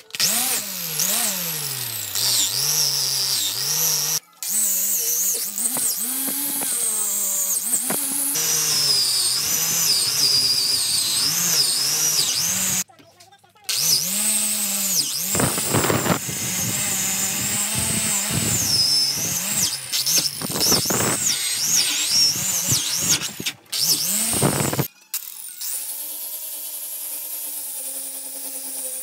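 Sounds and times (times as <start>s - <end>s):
grinder disc grinding metal: 0.0s - 12.8s, 13.7s - 25.9s
wire brush grinder scrubbing metal: 0.0s - 12.8s, 13.7s - 24.9s.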